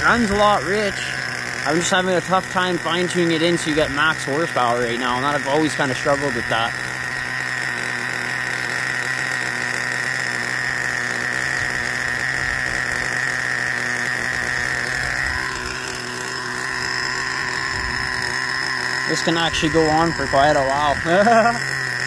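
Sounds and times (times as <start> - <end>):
small engine idling with whine: 0.0 - 22.0.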